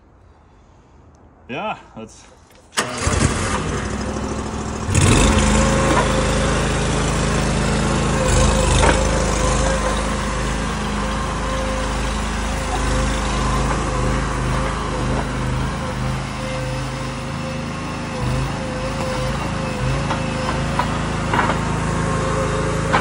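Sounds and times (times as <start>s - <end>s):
small engine running: 2.8s - 23.0s.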